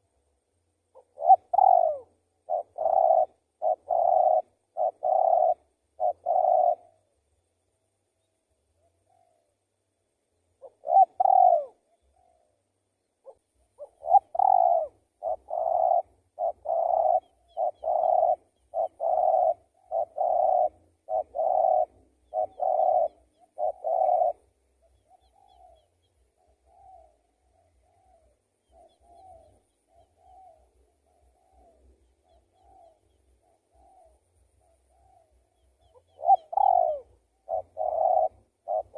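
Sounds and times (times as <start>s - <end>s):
dove cooing: 0.0s - 0.3s, 0.9s - 7.4s, 10.4s - 38.9s.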